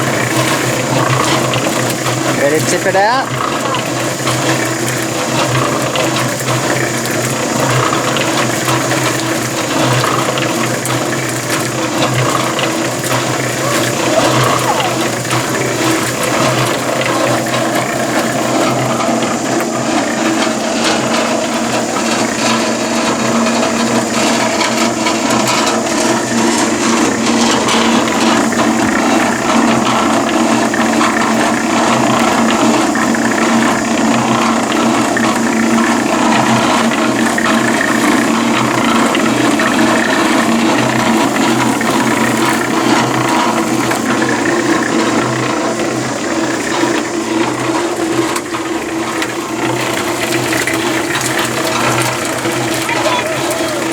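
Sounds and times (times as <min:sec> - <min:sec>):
concrete mixer drum turning with sand: 0:00.0 - 0:53.9
mixer drive gears rattling: 0:00.0 - 0:53.9
motor hum: 0:00.0 - 0:53.9.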